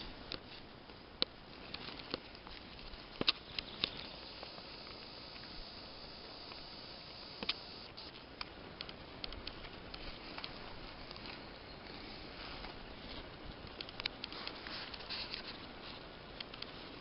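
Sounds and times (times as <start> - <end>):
steady hiss: 0.0 - 17.0
small clicks and crackles: 0.1 - 17.0.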